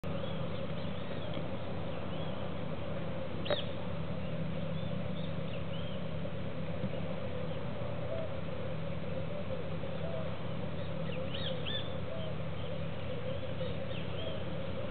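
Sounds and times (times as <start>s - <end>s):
small birds chirping: 0.0s - 2.6s, 3.4s - 14.9s
steady low hum: 0.0s - 14.9s.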